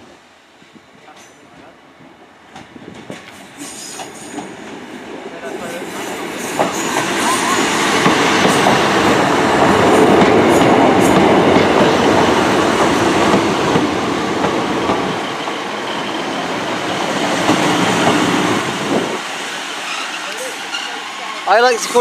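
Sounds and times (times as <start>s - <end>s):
diesel train rumbling: 0.0s - 22.0s.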